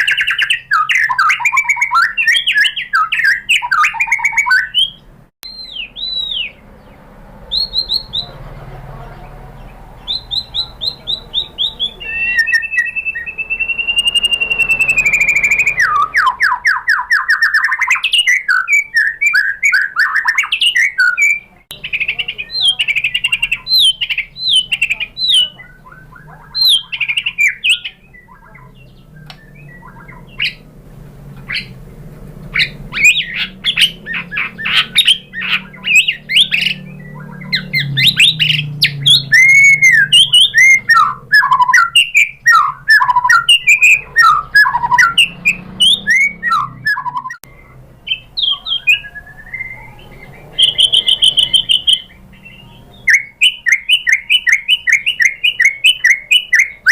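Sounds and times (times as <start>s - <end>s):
bird singing whistles and trills: 0.0s - 8.4s, 9.6s - 30.7s, 31.5s - 31.8s, 32.5s - 56.9s.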